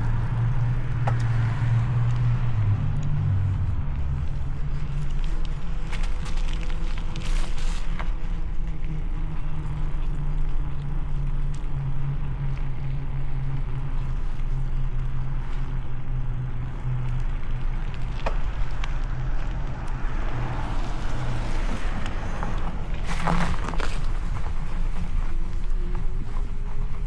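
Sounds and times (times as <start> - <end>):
vehicle engine humming: 0.0 - 27.0
wind and road noise: 0.0 - 27.0.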